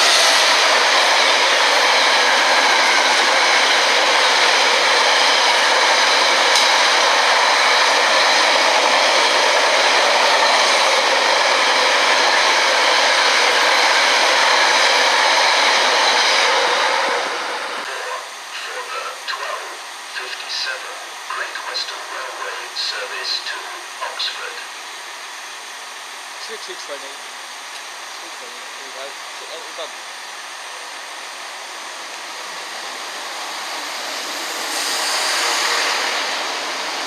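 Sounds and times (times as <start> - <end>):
train wheels rushing on rails: 0.0 - 27.2, 27.8 - 37.0.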